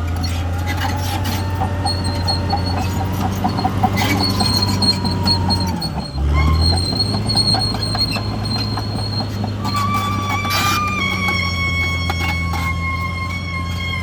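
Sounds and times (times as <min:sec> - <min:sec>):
bulldozer diesel engine under load: 0:00.0 - 0:14.0
steel tracks clanking and squealing: 0:00.0 - 0:14.0.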